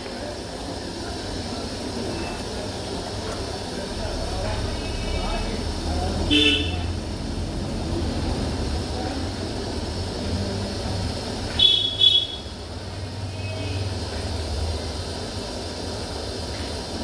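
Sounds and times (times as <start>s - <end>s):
low rumble of street traffic: 0.0s - 17.0s.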